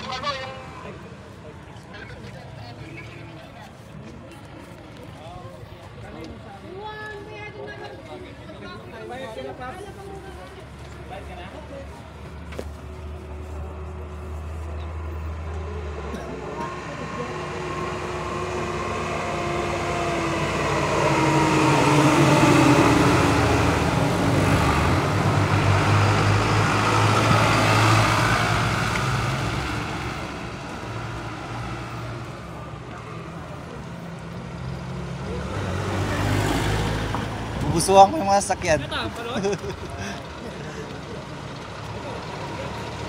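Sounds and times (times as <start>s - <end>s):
trucks driving past: 0.0s - 43.0s.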